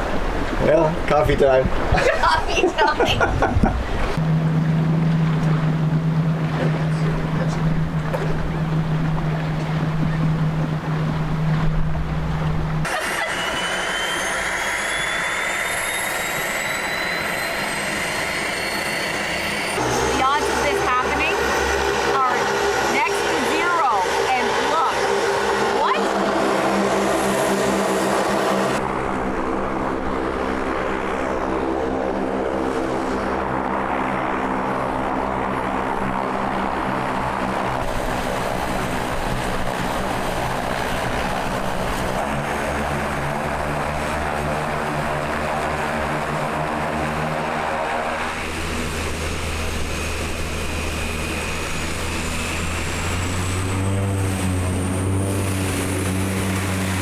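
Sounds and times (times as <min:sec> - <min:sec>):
propeller engine running: 0:00.0 - 0:57.0.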